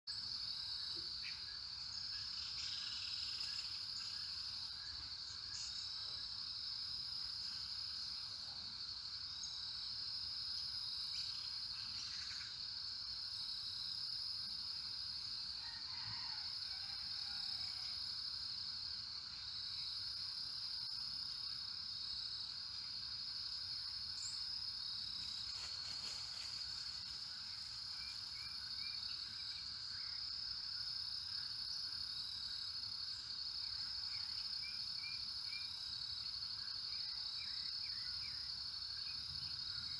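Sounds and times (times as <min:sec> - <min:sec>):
high-pitched insect chorus: 0:00.1 - 0:39.9.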